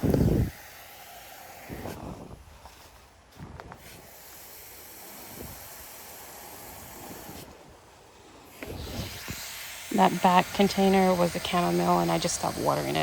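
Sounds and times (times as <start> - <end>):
garden hose spraying water: 0.0 - 2.2, 3.7 - 13.0.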